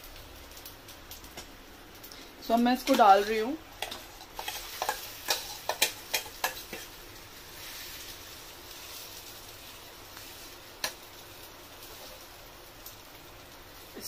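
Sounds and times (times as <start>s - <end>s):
batter sizzling in frying pan: 0.0s - 14.0s.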